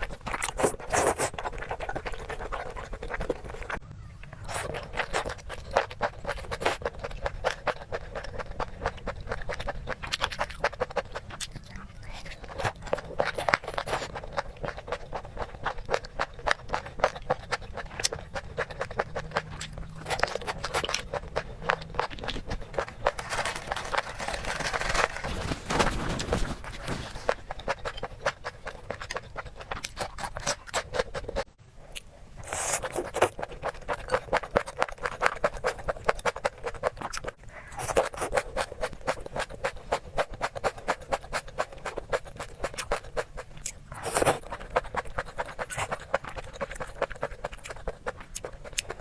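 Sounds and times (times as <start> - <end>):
chewing and crunching food: 0.0 - 49.0.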